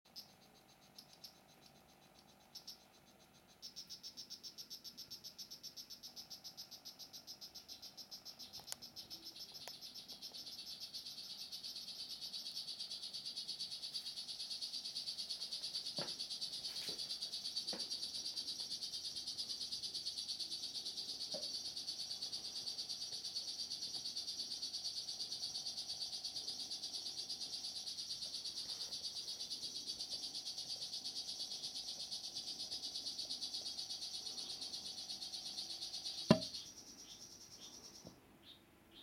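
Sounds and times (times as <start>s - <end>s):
frog calling with buzzing chirps: 0.1s - 39.0s.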